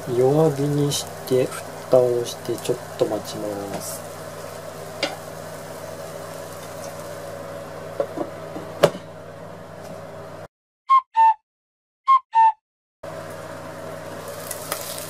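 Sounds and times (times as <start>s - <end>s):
pan sizzling softly: 0.0s - 10.2s, 13.1s - 15.0s.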